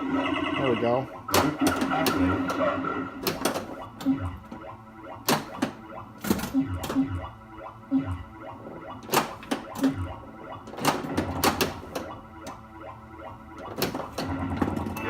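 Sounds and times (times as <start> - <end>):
electronic game sounds: 0.0 - 15.0
pinball mechanical clacks: 0.2 - 15.0.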